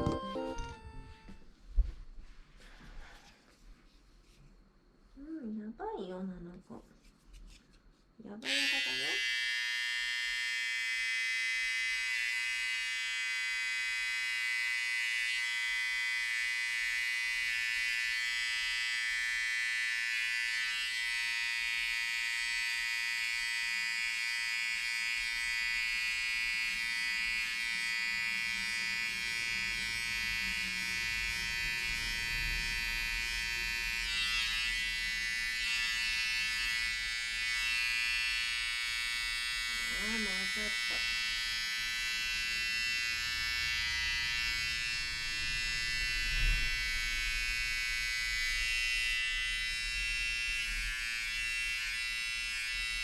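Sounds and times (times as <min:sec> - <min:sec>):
electric clippers buzzing: 0:00.0 - 0:01.4, 0:08.4 - 0:53.0.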